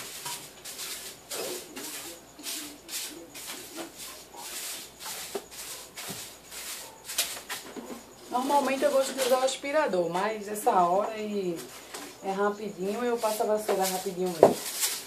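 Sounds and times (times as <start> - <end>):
broom bristles swishing on floor: 0.0 - 15.0.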